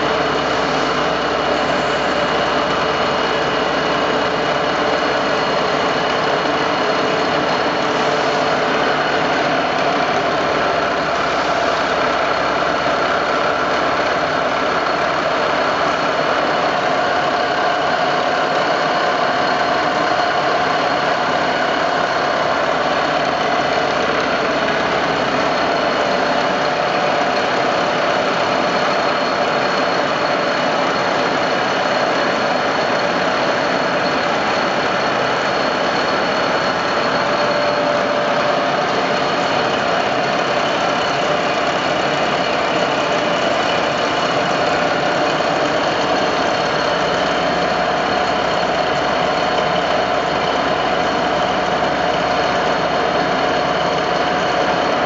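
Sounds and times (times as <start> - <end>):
machine whining tones: 0.0 - 55.0
milling machine drone: 0.0 - 55.0.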